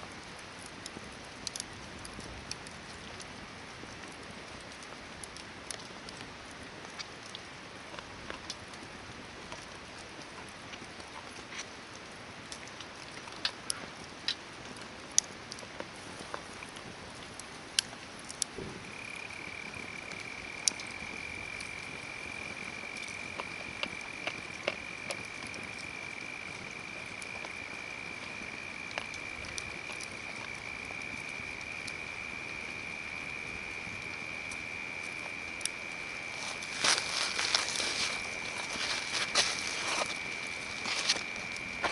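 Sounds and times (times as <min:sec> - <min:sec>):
campfire crackling and popping: 0:00.0 - 0:41.9.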